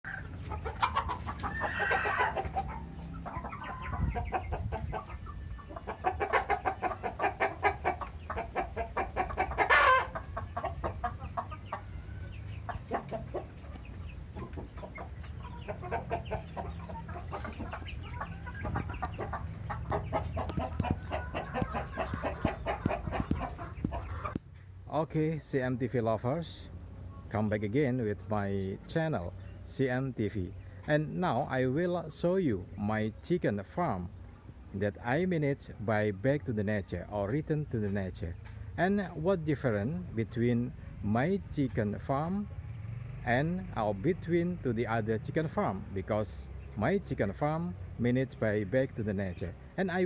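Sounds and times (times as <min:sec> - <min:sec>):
chickens clucking: 0:00.0 - 0:50.0.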